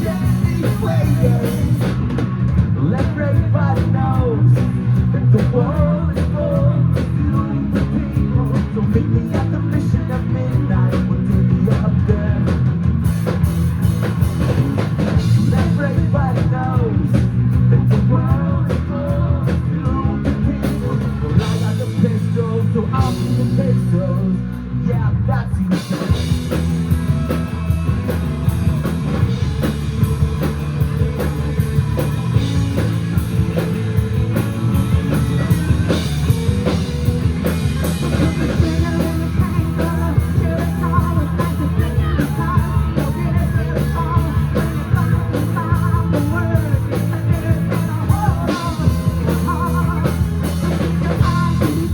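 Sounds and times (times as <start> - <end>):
drum kit: 0.0 - 24.4, 25.3 - 51.9
bass guitar: 0.0 - 51.9
electric guitars: 0.0 - 51.9.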